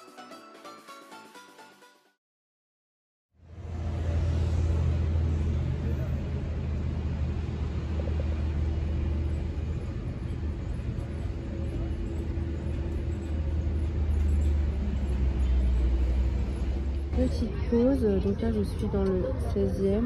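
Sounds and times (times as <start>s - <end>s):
city traffic rumble: 3.4s - 20.0s.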